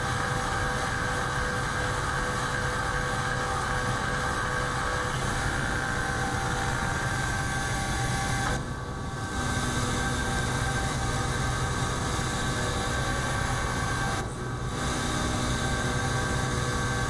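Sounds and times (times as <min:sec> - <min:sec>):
milling machine cutting whine: 0:00.0 - 0:17.0.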